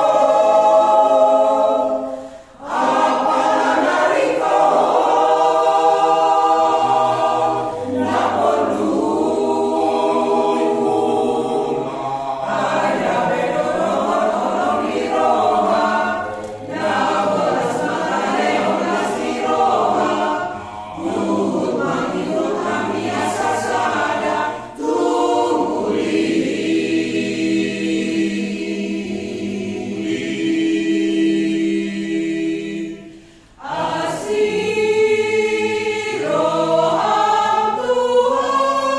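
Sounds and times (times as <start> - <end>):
choir singing unaccompanied: 0.0 - 38.9.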